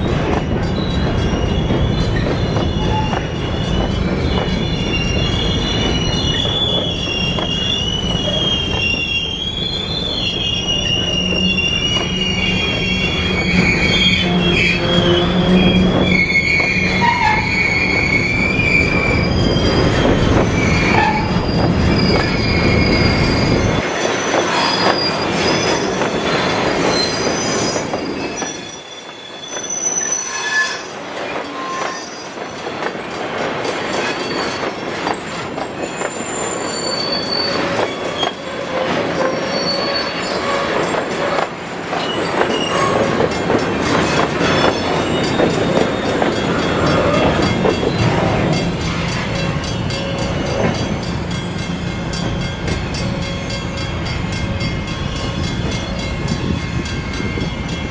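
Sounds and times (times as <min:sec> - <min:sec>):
low rumble of train: 0:00.0 - 0:57.9
train wheels squealing on rails: 0:00.0 - 0:57.9.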